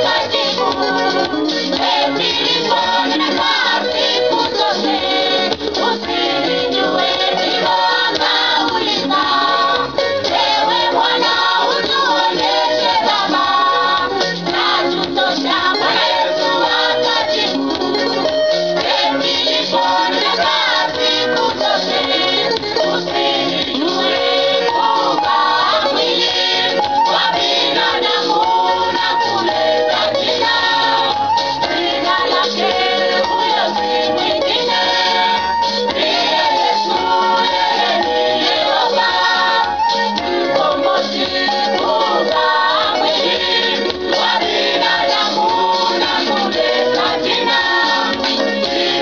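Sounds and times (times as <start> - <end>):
choir singing gospel song: 0.0 - 49.0.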